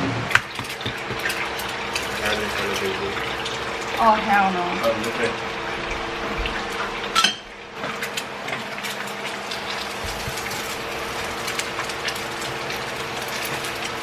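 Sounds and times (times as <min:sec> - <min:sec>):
appliance hum: 0:00.0 - 0:14.0
batter crackling: 0:00.2 - 0:07.0, 0:07.8 - 0:14.0.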